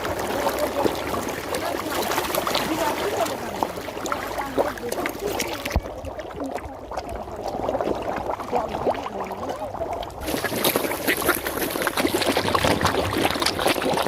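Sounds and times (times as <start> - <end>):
water splashing and churning: 0.0 - 14.0.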